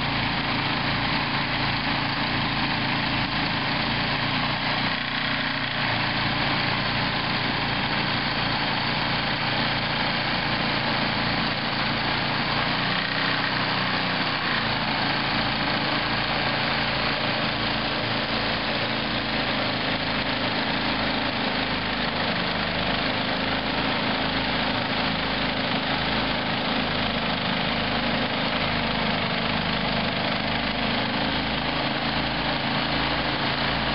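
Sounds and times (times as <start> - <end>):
snow thrower engine running: 0.0 - 33.9.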